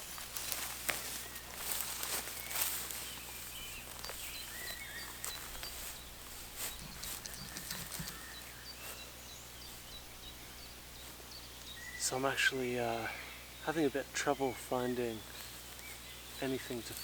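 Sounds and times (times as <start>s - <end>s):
birds chirping: 0.0s - 17.0s
footsteps rustling on forest floor: 0.0s - 17.0s.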